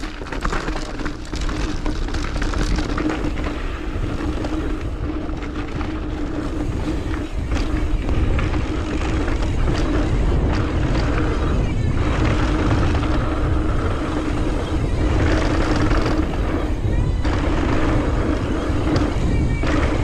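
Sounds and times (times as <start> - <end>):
bike rattling: 0.0 - 20.0
tyres rolling over dirt: 0.0 - 20.0
wind buffeting microphone: 0.0 - 20.0
steady hum: 2.8 - 20.0.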